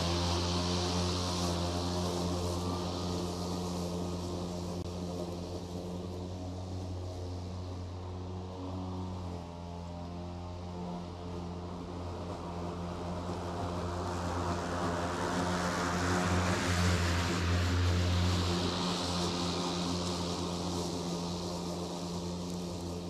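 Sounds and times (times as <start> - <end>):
electric lawn mower cutting grass: 0.0 - 23.0.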